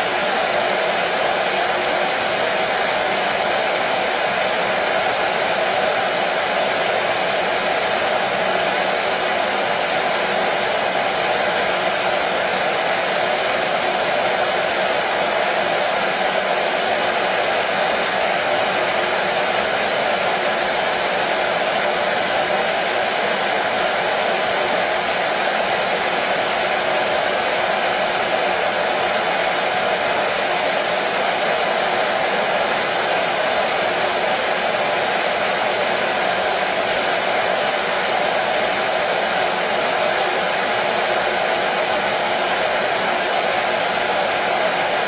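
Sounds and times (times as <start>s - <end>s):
washing machine running: 0.0s - 45.0s.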